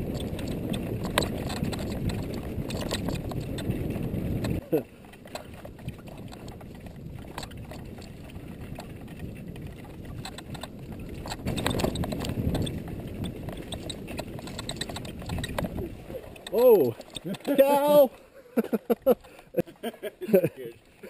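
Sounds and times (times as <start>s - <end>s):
clicks and knocks over bumps: 0.0s - 18.2s
bike tyre rumble: 0.0s - 19.6s
bike rattling: 0.0s - 21.0s.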